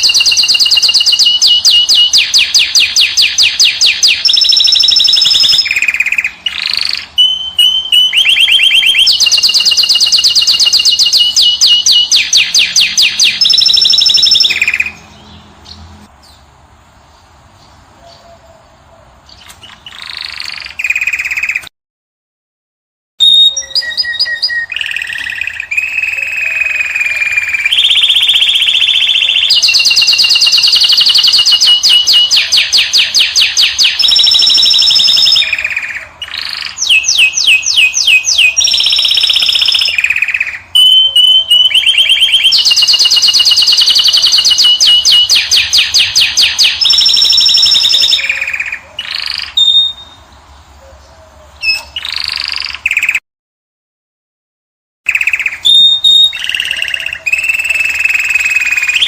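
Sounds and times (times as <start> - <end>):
finch singing trills: 0.0 - 21.7, 23.2 - 53.2, 55.1 - 59.0.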